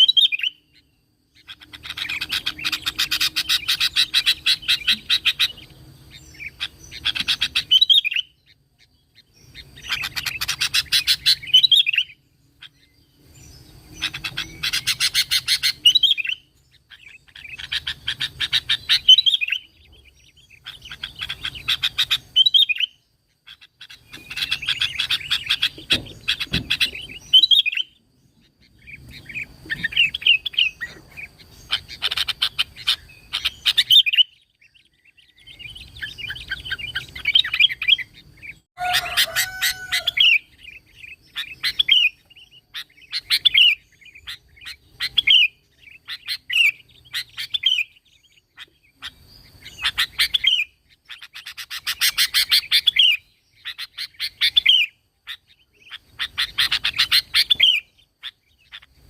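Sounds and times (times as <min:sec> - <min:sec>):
bird chattering chirps: 0:00.0 - 0:59.0
lower bird call: 0:00.0 - 0:59.0.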